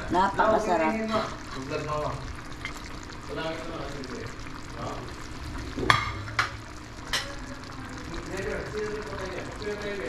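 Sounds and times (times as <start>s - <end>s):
fish sizzling in sauce: 0.0s - 10.0s
utensil stirring in a pan: 0.0s - 10.0s.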